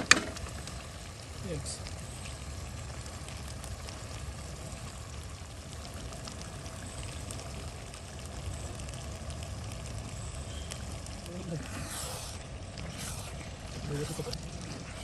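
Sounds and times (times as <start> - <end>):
curry bubbling and sizzling: 0.0 - 15.0
low rumble of gas stove: 0.0 - 15.0.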